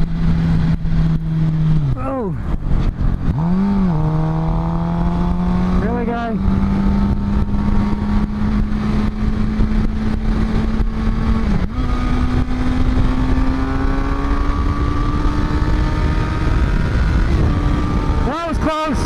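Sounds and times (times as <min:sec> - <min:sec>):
motorcycle engine accelerating: 0:00.0 - 0:19.0
wind rush on microphone: 0:00.0 - 0:19.0.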